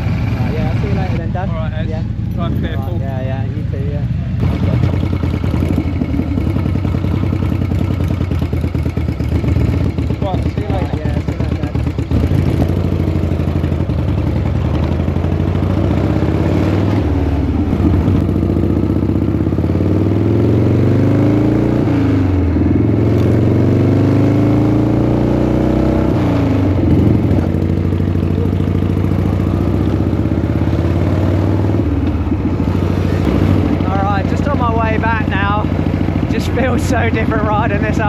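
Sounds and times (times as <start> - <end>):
motorcycle accelerating through gears: 0.0 - 38.0.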